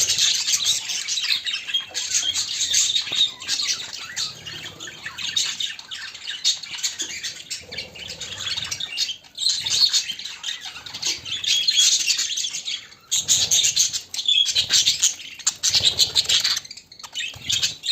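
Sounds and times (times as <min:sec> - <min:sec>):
budgerigars chattering and warbling: 0:00.0 - 0:17.9.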